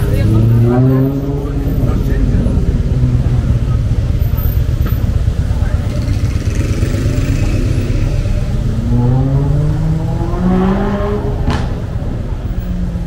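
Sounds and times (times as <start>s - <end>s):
low rumble of street traffic: 0.0s - 13.0s
vehicle engine accelerating: 0.0s - 13.0s.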